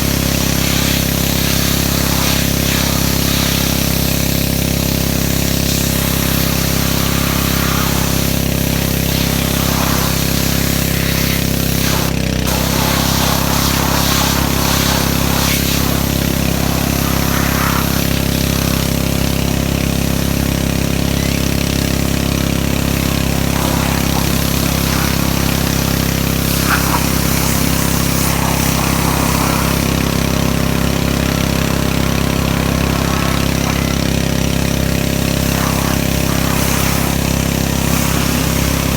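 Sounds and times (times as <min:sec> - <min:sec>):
pressure washer engine humming: 0:00.0 - 0:38.9
pressure washer spray hiss: 0:00.0 - 0:38.9.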